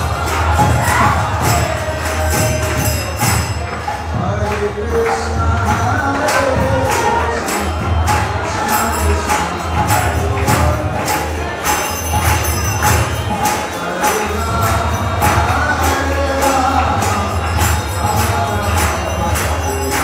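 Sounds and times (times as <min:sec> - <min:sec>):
hand cymbals clashing: 0:00.0 - 0:20.0
voices chanting together: 0:00.0 - 0:20.0.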